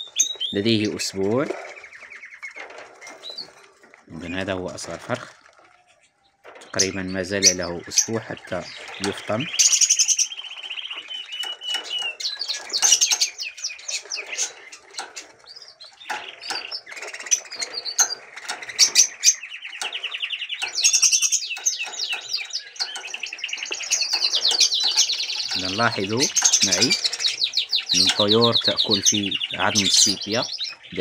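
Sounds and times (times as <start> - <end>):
budgerigars chattering: 0.0 - 5.0, 5.9 - 31.0.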